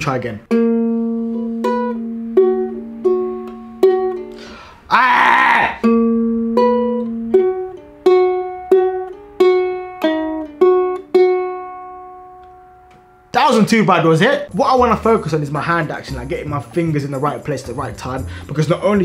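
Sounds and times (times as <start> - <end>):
ukulele strumming chords: 0.0 - 4.7, 5.8 - 19.0.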